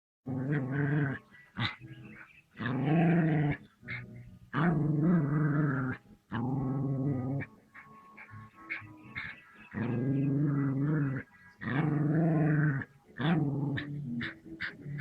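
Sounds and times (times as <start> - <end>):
dog growling: 0.3 - 15.0.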